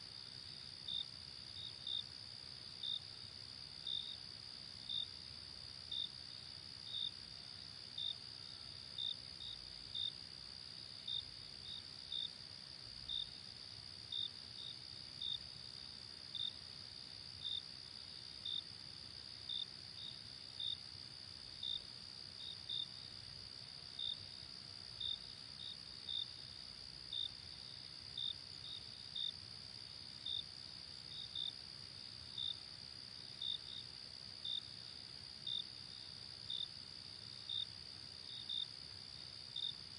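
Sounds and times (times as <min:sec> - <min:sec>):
steady high-pitched insect trill: 0:00.0 - 0:39.9.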